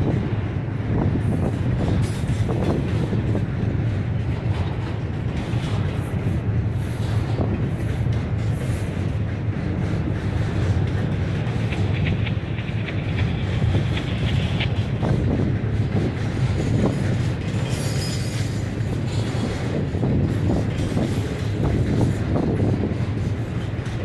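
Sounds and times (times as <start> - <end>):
freight train rumbling past: 0.0 - 24.0
wheels clacking over rail joints: 0.0 - 24.0.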